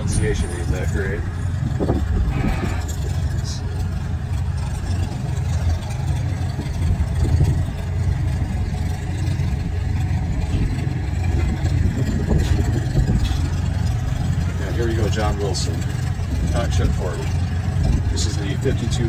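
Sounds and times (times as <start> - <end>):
tractor engine under heavy load: 0.0 - 19.0.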